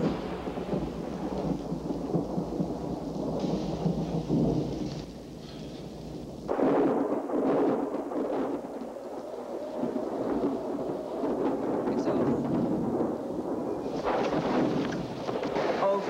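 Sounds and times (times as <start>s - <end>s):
low storm-like rumble: 0.0s - 16.0s.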